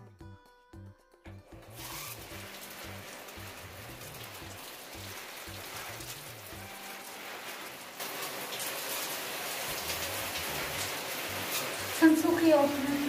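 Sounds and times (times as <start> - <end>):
shower head spraying water: 1.5 - 13.0.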